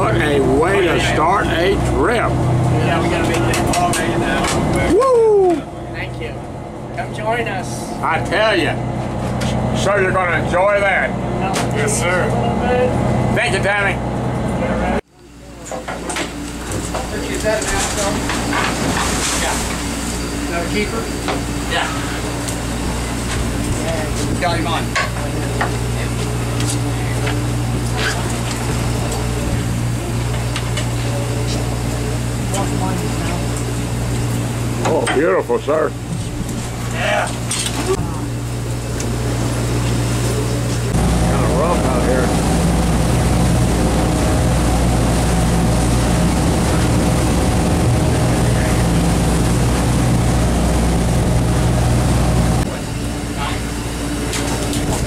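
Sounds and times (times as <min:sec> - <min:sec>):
boat machinery droning: 0:00.0 - 0:55.0
churning wake: 0:00.0 - 0:55.0
wind: 0:00.0 - 0:55.0.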